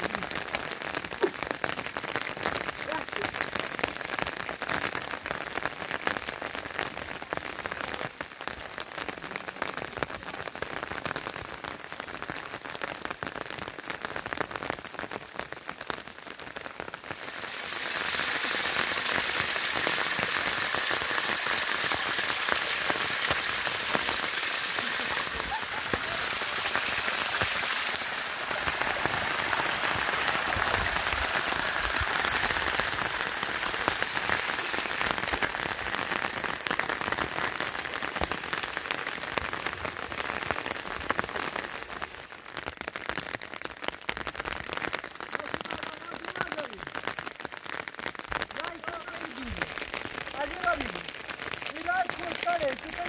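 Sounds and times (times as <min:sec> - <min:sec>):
rain pattering on rock: 0:00.0 - 0:53.0
rainwater rushing down gully: 0:00.0 - 0:53.0.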